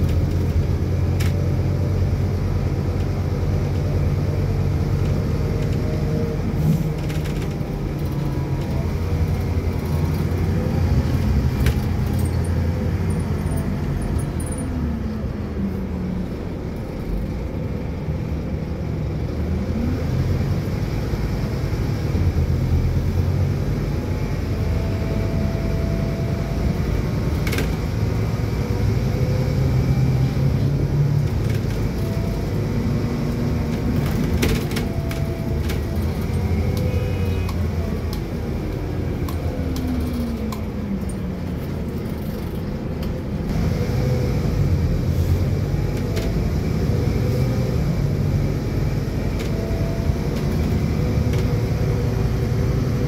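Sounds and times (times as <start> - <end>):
vehicle rumble from inside cabin: 0.0 - 53.0.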